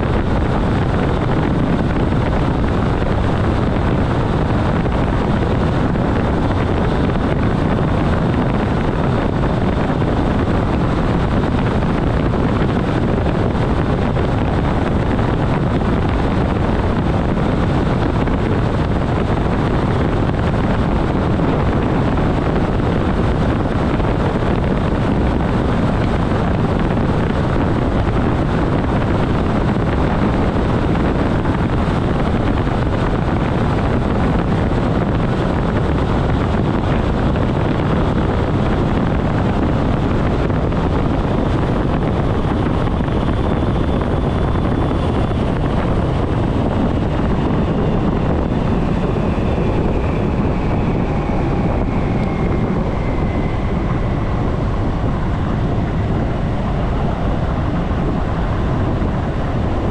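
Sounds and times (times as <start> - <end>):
train wheel-on-rail rumble: 0.0 - 59.9.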